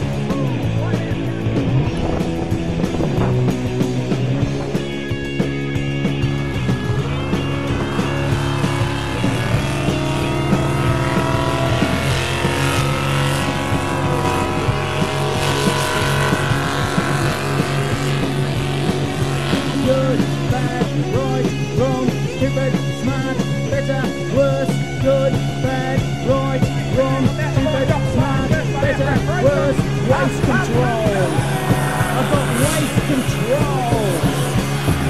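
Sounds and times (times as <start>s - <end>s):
punk rock music: 0.0s - 35.0s
tractor engine running hard: 0.0s - 35.0s.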